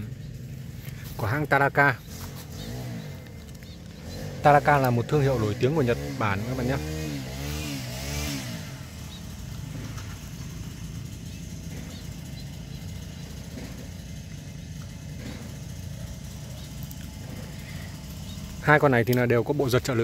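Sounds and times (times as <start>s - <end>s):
small engine running low speed: 0.0s - 20.0s.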